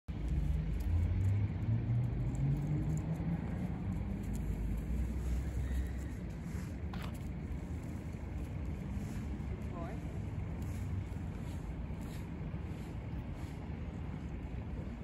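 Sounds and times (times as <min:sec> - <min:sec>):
vehicle engine running: 0:00.1 - 0:15.0.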